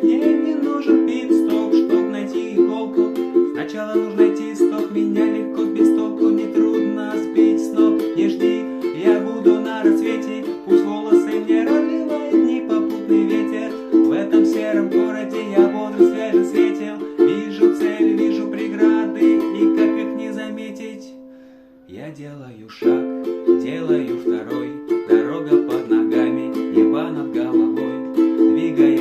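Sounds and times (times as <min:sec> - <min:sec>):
strummed ukulele: 0:00.0 - 0:21.6, 0:22.7 - 0:29.0.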